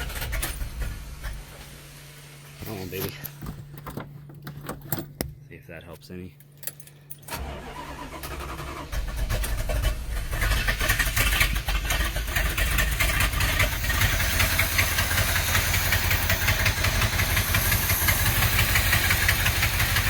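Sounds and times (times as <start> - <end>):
car engine running: 0.0 - 5.3, 7.3 - 20.0.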